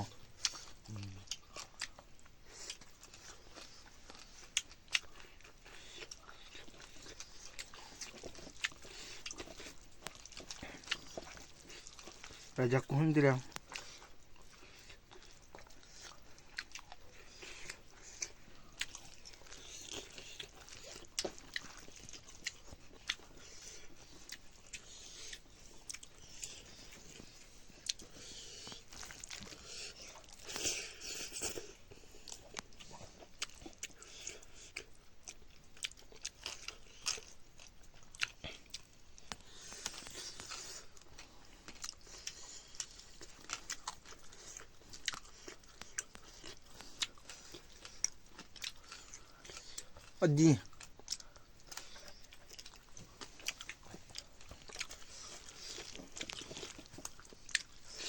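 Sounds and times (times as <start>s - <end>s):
crunching and crackling clicks: 0.4s - 30.6s, 32.2s - 58.0s.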